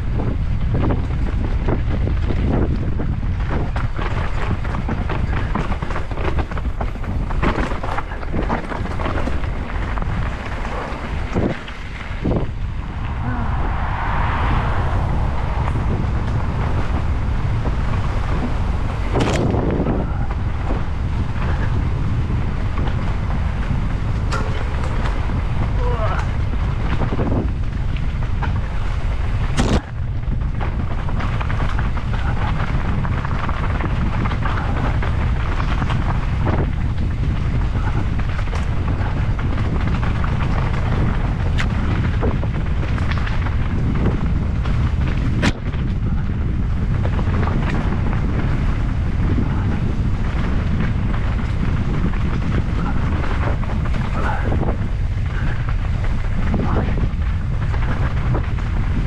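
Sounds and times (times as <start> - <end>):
wind buffeting and trail noise: 0.0 - 59.0.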